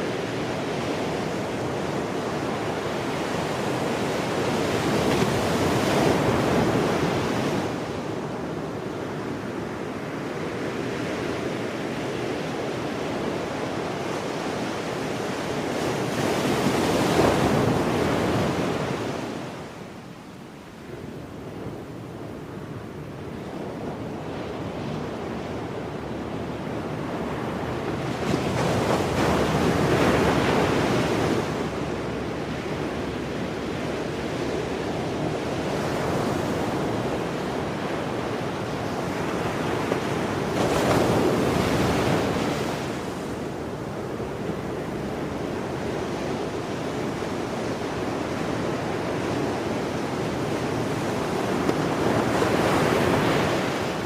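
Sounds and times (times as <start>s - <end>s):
sea surf: 0.0s - 54.0s
strong wind: 0.0s - 54.0s.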